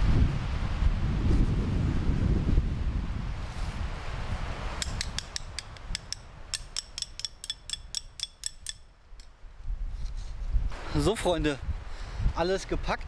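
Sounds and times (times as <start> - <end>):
wind on microphone: 0.0 - 8.2, 9.3 - 13.0.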